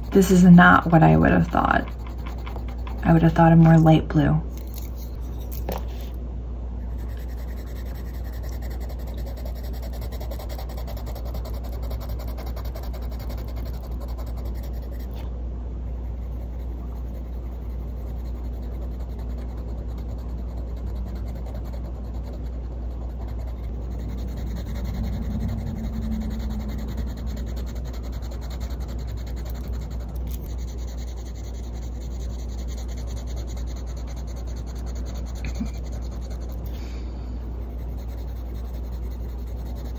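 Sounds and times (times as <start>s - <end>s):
pencil scribbling on paper: 0.0s - 4.0s, 6.8s - 15.2s, 16.0s - 36.8s, 37.4s - 39.9s.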